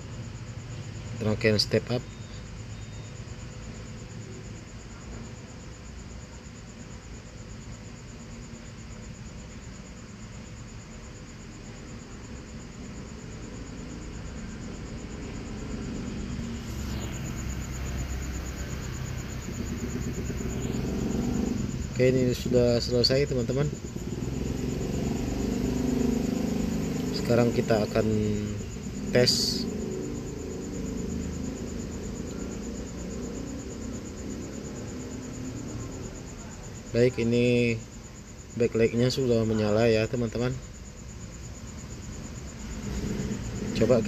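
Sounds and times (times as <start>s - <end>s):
cricket trilling: 0.0s - 44.0s
low background hum: 0.0s - 44.0s
pulsing insect chirp: 0.0s - 44.0s
low steady rumble: 2.2s - 38.4s.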